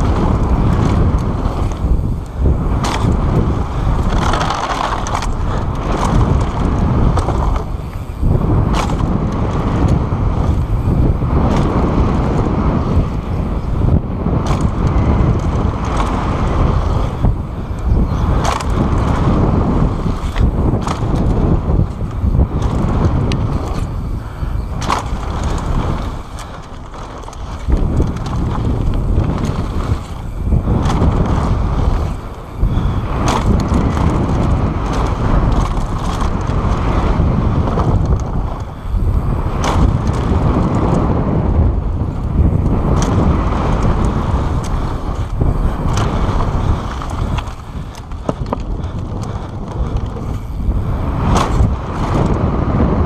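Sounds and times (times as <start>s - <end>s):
bike rattling over bumps: 0.0s - 53.0s
tyre roar on dirt: 0.0s - 53.0s
wind buffeting microphone: 0.0s - 53.0s.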